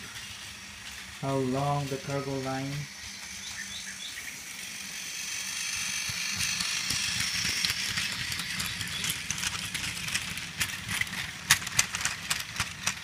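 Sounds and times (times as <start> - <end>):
toy train cars rattling: 0.0 - 13.0
toy train motor and wheels: 0.0 - 13.0.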